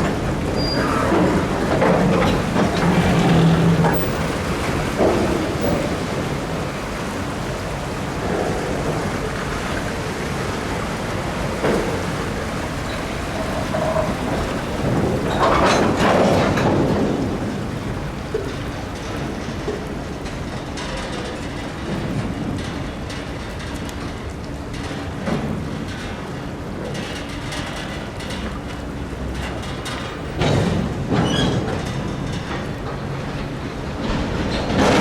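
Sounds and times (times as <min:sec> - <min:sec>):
splashing churning water: 0:00.0 - 0:35.0.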